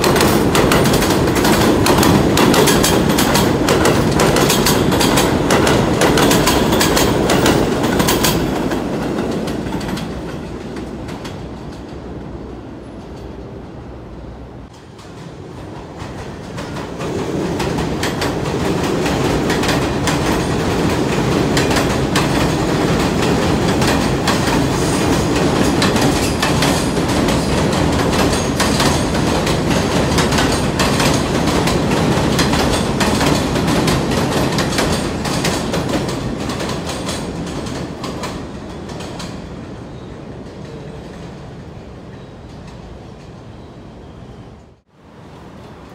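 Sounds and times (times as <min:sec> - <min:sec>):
subway train wheels clattering: 0:00.0 - 0:45.9.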